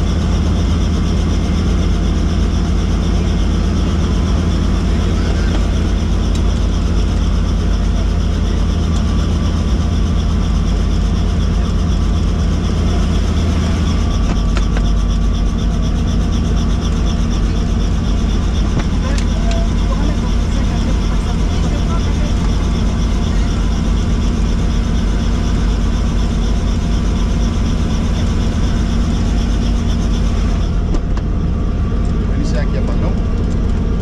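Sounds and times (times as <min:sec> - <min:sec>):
helicopter rotor and engine drone: 0:00.0 - 0:34.0.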